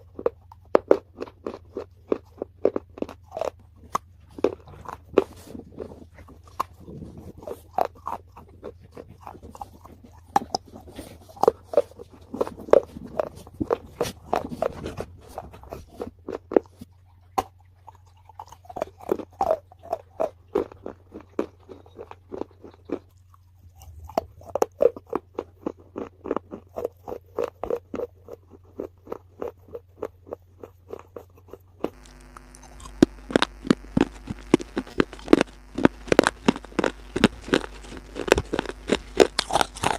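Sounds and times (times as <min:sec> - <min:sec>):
crunchy food being chewed: 0:00.0 - 0:39.9
faint low hum: 0:00.0 - 0:39.9.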